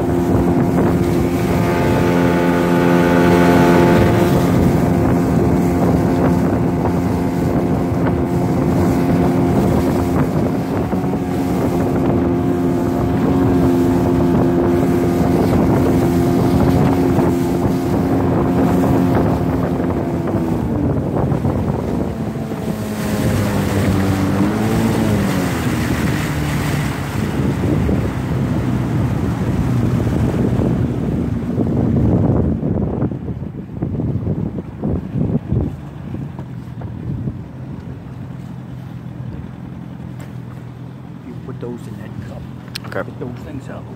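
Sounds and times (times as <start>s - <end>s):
outboard motor running: 0.0s - 43.9s
wind on microphone: 0.0s - 43.9s.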